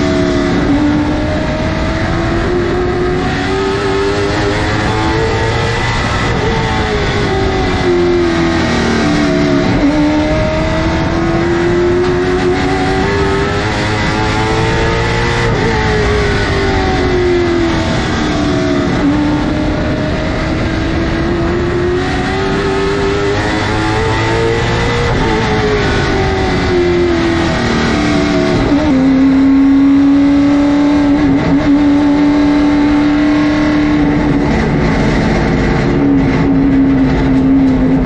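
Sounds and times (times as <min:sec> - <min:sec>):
race car engine: 0:00.0 - 0:38.0.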